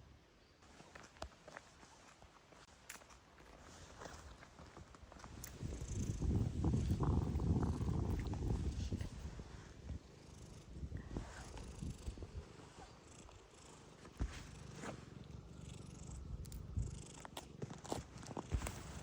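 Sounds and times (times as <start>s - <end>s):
cat purring: 3.6s - 19.0s.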